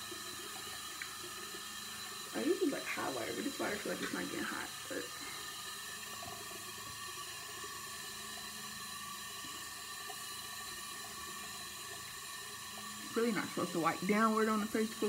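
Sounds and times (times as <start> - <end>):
faucet water running: 0.0 - 15.0.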